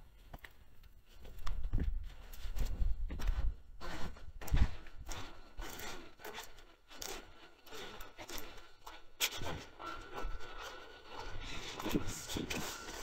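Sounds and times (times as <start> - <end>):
rustling and scraping: 1.1 - 13.0.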